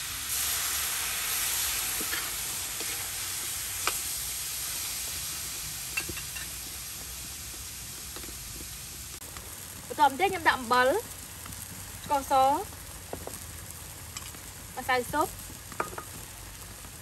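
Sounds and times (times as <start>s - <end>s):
meat sizzling in a wok: 0.0s - 17.0s.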